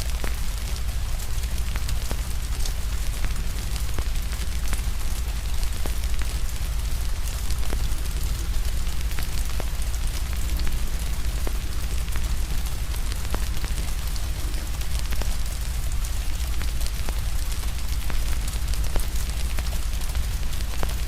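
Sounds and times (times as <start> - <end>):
crackling wood fire: 0.0 - 21.0
steady rain: 0.0 - 21.0.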